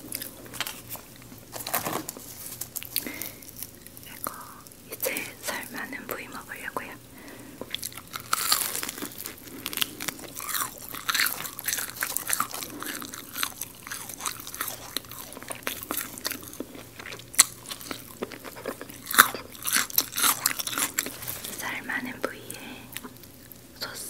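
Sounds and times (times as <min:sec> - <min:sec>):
crunchy chewing of fried chicken: 0:00.0 - 0:23.7.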